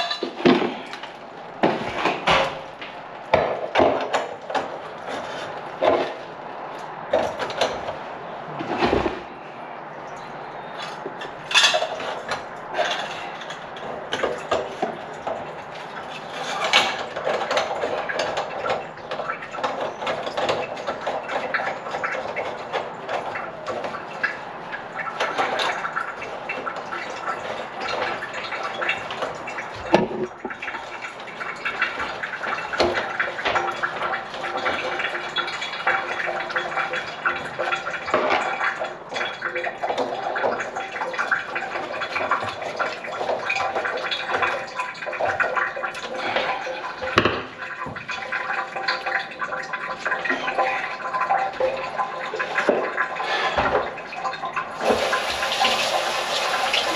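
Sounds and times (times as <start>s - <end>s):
metal pipes clinking and scraping: 0.0s - 1.1s, 3.7s - 6.2s, 10.2s - 56.1s.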